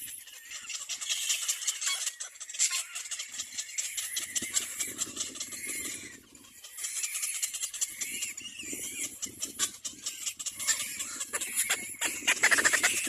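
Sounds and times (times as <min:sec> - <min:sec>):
cormorant chicks raspy clicking: 0:00.0 - 0:13.0.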